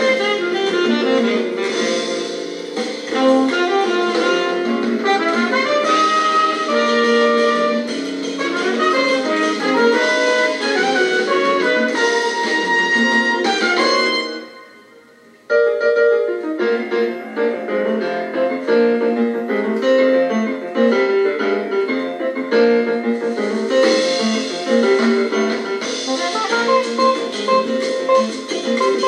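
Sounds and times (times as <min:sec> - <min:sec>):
piano music through small speaker: 0:00.0 - 0:29.0.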